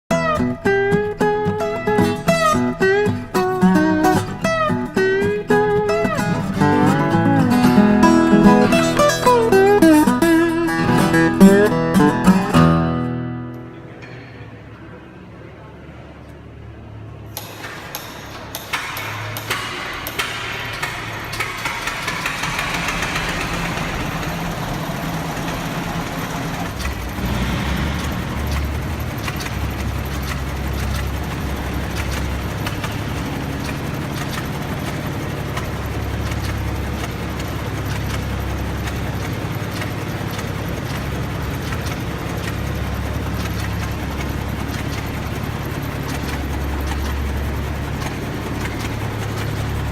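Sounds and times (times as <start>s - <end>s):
tractor engine pulsing run: 0.1s - 13.6s, 16.7s - 49.9s
tractor engine starting pops: 0.1s - 14.4s, 17.3s - 49.9s.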